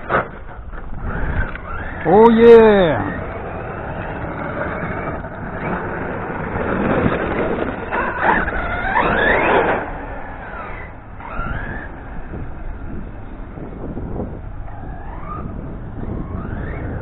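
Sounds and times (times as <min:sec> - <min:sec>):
rc car motor whining: 0:00.0 - 0:17.0.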